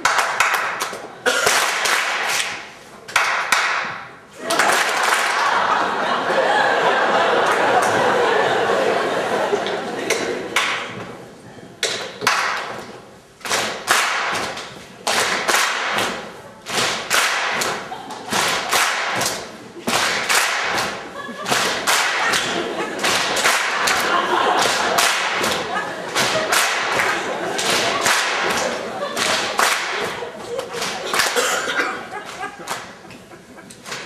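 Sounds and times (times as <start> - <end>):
audience clapping and thumping: 0.0 - 11.2, 11.8 - 34.0.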